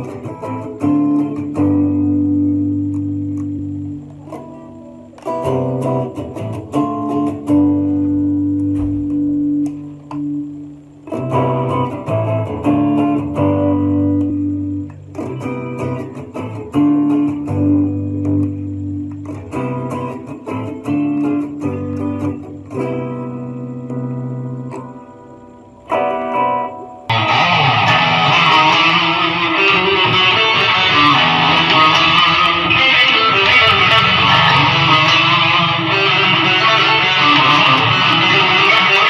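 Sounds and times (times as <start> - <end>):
electric guitar chords and notes: 0.0 - 39.0.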